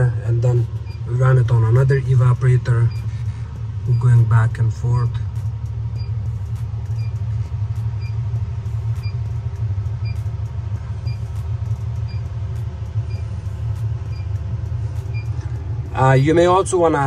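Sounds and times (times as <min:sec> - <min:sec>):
refrigeration unit humming: 0:00.0 - 0:17.0.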